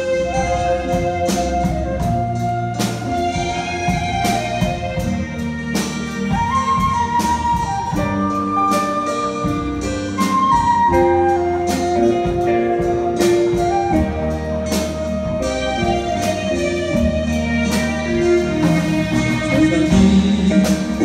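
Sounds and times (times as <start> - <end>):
drum kit beat: 0.0 - 21.0
live band playing folk song: 0.0 - 21.0.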